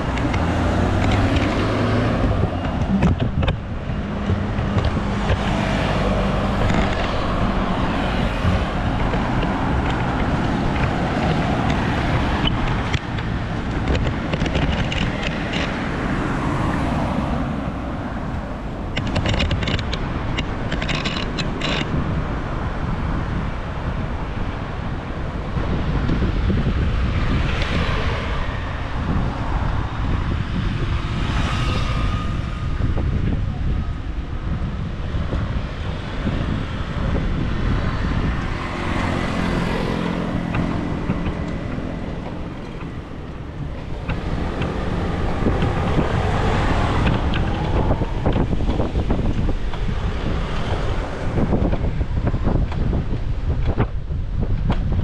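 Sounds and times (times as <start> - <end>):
road traffic passing: 0.0 - 55.0
wind buffeting microphone: 0.0 - 55.0.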